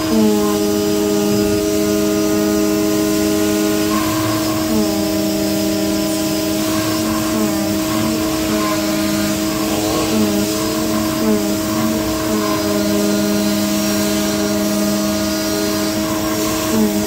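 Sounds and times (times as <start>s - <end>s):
machine hum: 0.0s - 17.0s
motor whines: 0.0s - 17.0s.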